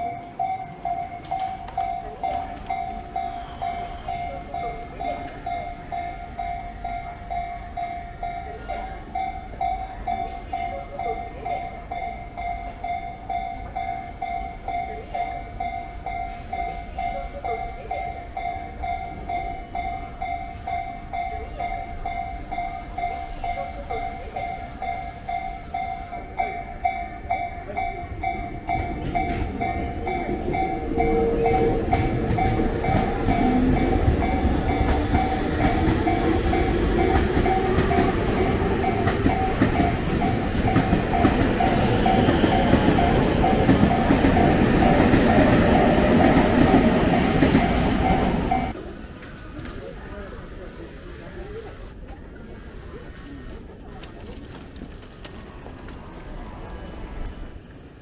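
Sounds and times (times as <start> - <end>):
level crossing alarm bell: 0.0 - 48.8
train passing: 0.0 - 58.0.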